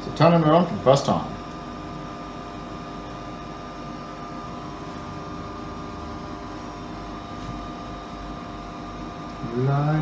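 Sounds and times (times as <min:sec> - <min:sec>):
room hum with hiss: 0:00.0 - 0:10.0.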